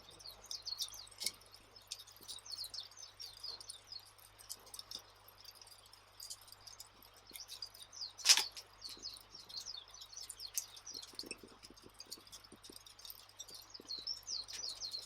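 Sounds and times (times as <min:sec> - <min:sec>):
fire popping: 0:00.0 - 0:15.0
small birds chirping: 0:00.0 - 0:15.0
wood fire crackling: 0:00.0 - 0:15.0.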